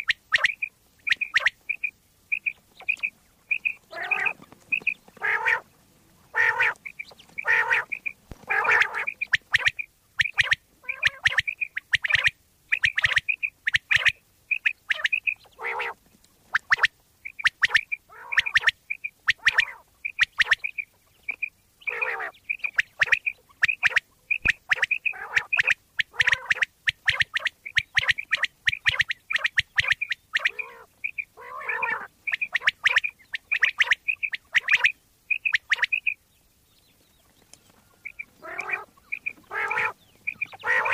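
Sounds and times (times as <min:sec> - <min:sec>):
quail calling: 0:00.0 - 0:36.2, 0:36.9 - 0:40.9.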